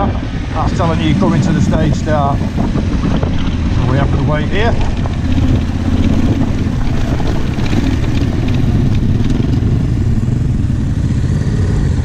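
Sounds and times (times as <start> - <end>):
motorcycle engine idling: 0.7 - 12.0.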